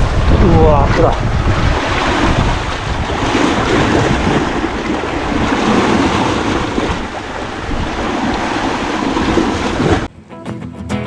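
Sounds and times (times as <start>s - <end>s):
surf washing against rocks: 0.0s - 10.1s
wind buffeting microphone: 0.0s - 10.1s.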